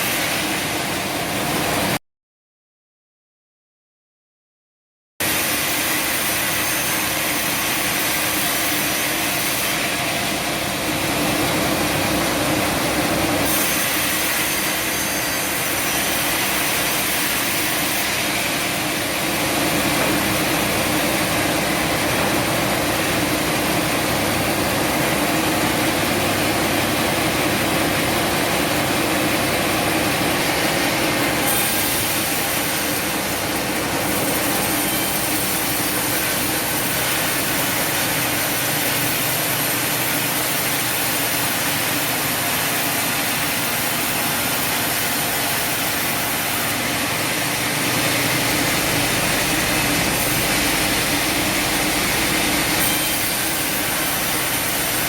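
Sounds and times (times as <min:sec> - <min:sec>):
sawmill machinery running: 0:00.0 - 0:02.0, 0:05.2 - 0:55.0.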